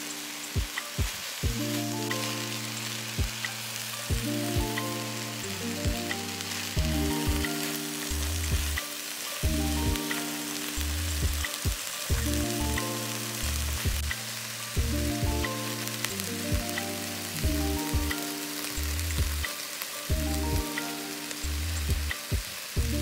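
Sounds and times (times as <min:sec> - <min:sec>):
beef sizzling in a pot: 0:00.0 - 0:23.0
slow background music: 0:00.0 - 0:23.0.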